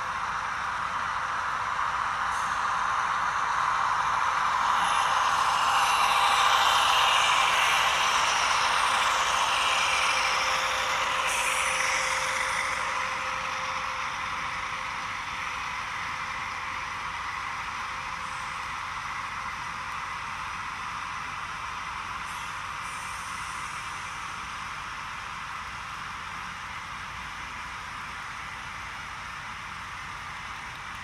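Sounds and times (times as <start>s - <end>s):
model locomotive engine sound: 0.0s - 31.0s
model train running on track: 0.0s - 31.0s.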